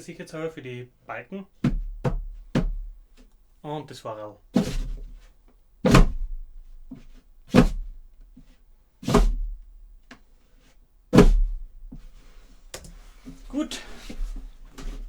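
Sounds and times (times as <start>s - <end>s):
faint knocks and scuffs: 1.5s - 3.5s, 4.5s - 15.0s
heavy footsteps on wooden beams: 1.5s - 3.5s, 4.5s - 15.0s.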